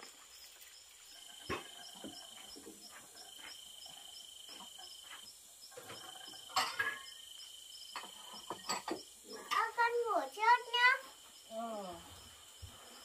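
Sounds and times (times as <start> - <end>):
insects chirping: 0.0 - 13.0
insects trilling: 0.0 - 13.0.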